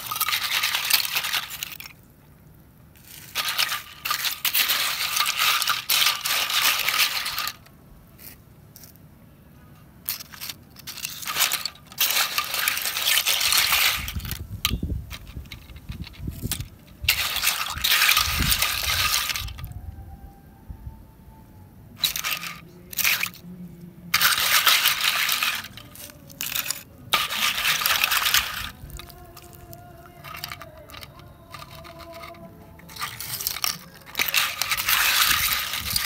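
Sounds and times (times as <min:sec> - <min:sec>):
clam shells clattering: 0:00.0 - 0:02.1, 0:03.0 - 0:07.7, 0:10.0 - 0:19.7, 0:22.0 - 0:23.4, 0:24.2 - 0:36.0.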